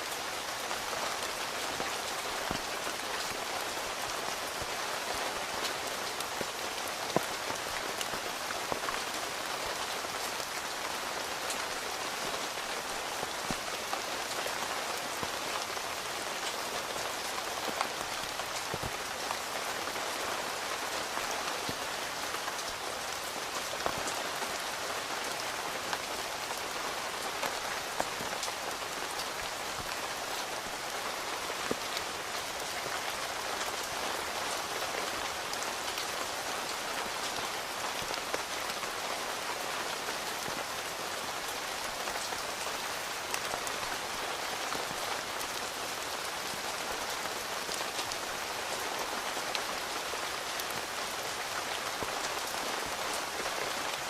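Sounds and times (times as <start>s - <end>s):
rain on tent fabric: 0.0s - 54.0s.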